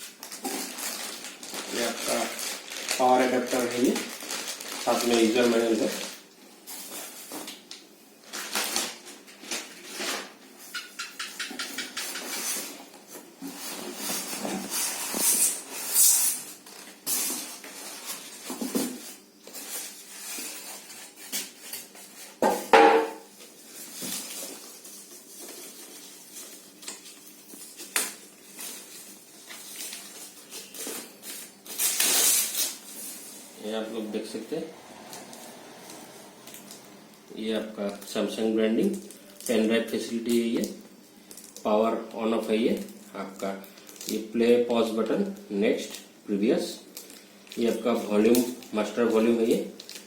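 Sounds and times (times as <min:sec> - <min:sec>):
plastic wrap and cardboard rustling: 0:00.0 - 0:10.8, 0:12.0 - 0:50.0.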